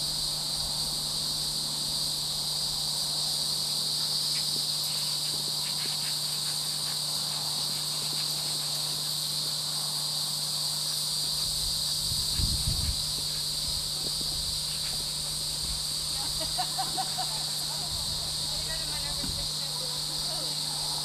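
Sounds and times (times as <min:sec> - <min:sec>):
insect buzzing: 0:00.0 - 0:21.0.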